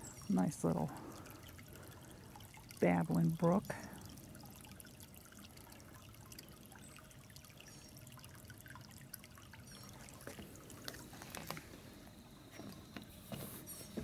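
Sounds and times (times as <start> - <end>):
brook babbling: 0.0 - 14.0.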